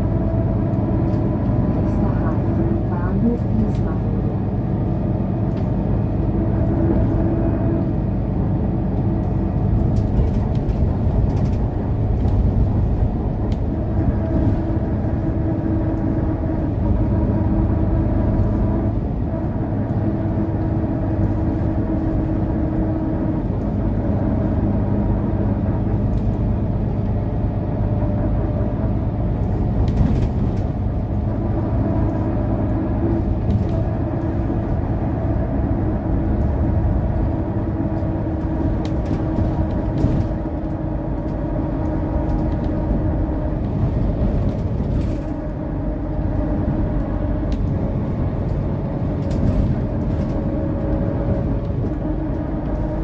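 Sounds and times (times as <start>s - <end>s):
bus engine drone: 0.0s - 53.0s
tyre and road noise: 0.0s - 53.0s.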